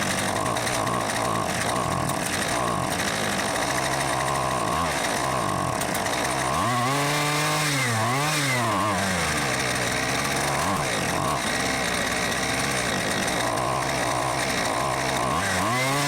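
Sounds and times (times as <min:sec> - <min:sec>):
brushcutter engine revving: 0:00.0 - 0:16.0.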